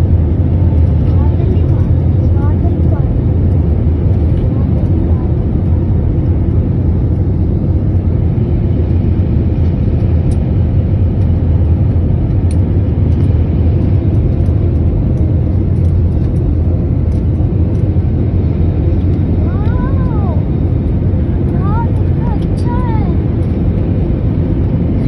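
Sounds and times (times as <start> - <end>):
vehicle interior rumble: 0.0 - 25.0.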